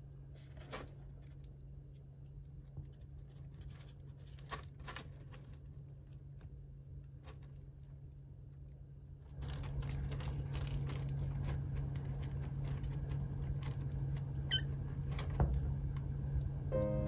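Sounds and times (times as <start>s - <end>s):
low steady hum: 0.0s - 17.0s
kitten scratching in litter pellets: 0.3s - 8.2s, 9.2s - 16.0s.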